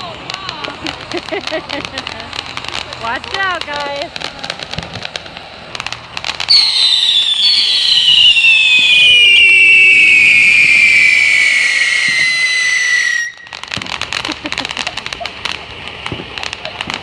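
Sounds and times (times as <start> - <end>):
fireworks crackle: 0.0 - 17.0
fireworks whistling: 0.0 - 17.0.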